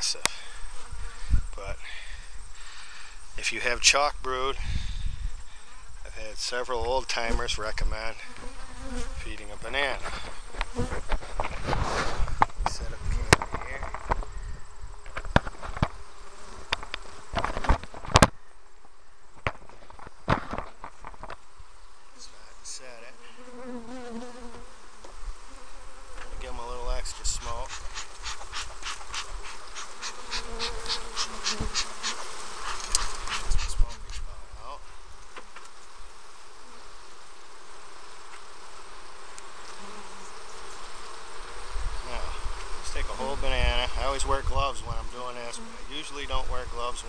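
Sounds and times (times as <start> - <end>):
honeybees buzzing: 0.0 - 47.0.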